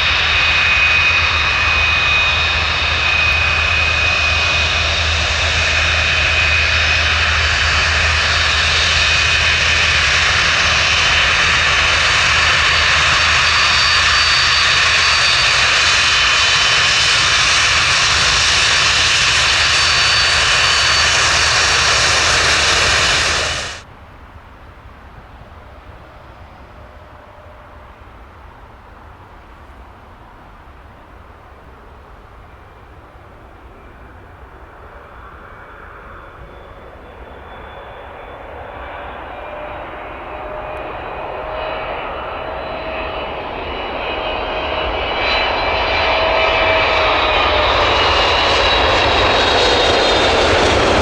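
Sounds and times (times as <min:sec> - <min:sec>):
jet engines roaring: 0:00.0 - 0:23.9, 0:32.0 - 0:51.0.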